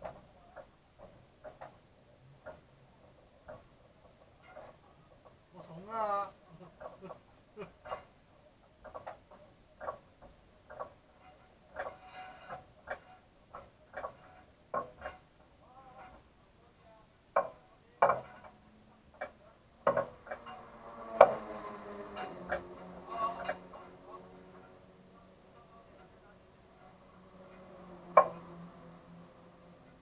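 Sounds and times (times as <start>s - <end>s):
sharp metallic clicks and knocks: 0.0s - 5.8s, 6.6s - 16.3s, 17.3s - 30.0s.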